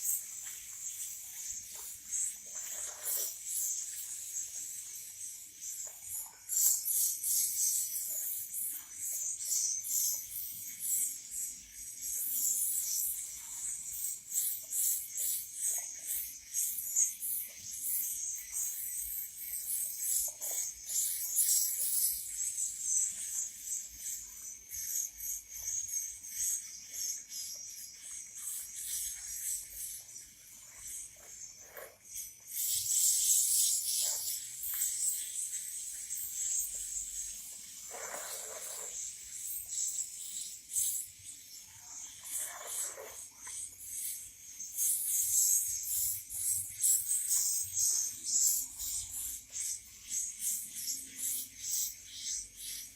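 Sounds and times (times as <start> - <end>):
young birds chittering and hissing: 0.0 - 52.9.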